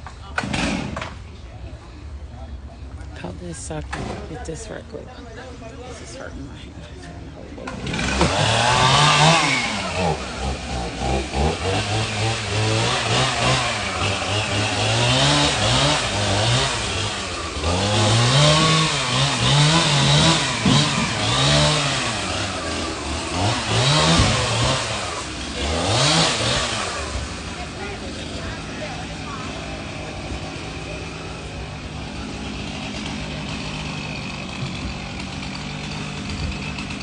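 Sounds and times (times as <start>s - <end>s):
chainsaw cutting wood: 0.2s - 1.2s, 7.6s - 37.0s.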